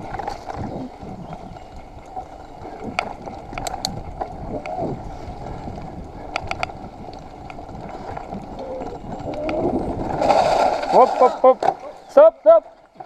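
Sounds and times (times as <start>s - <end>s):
bike clicks and rattles: 0.0s - 12.2s
bike tyres on muddy trail: 0.0s - 13.0s.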